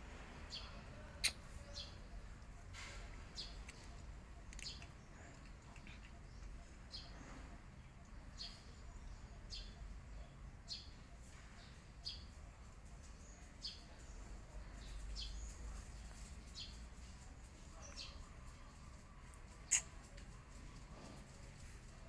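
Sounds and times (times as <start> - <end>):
bird chirping: 0.4 - 16.9, 17.7 - 20.3.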